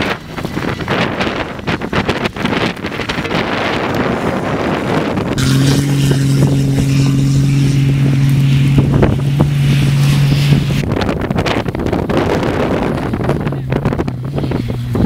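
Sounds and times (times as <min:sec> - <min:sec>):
engine low drone: 0:00.0 - 0:15.0
wind buffeting microphone: 0:00.0 - 0:15.0.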